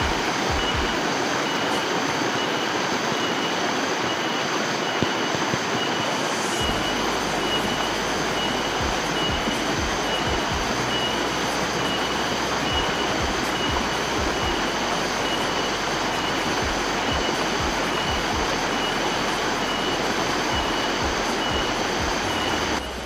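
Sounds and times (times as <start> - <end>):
pulsing high tone: 0.0 - 23.0
stream rushing over rocks: 0.0 - 23.0.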